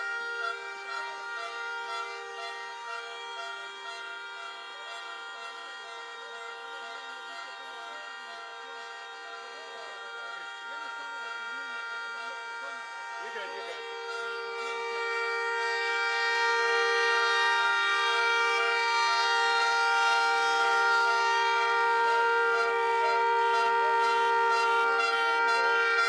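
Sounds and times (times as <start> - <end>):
car horn long blast: 0.0 - 26.0.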